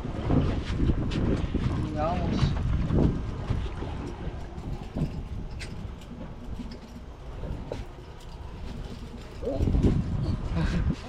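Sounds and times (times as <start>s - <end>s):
wind and water rumble: 0.0s - 11.0s.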